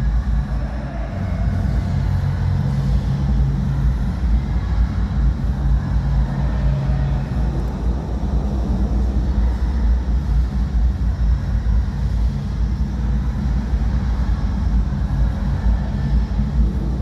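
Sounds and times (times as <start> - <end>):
distant muffled party music bass: 0.0 - 17.0.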